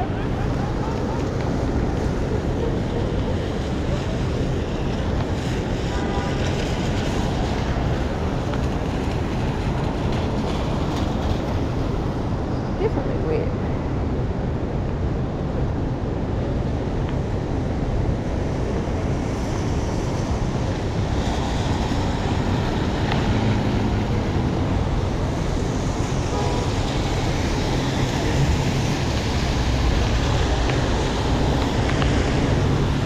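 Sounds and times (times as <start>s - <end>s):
heavy rain on street: 0.0s - 33.0s
traffic rumble: 0.0s - 33.0s.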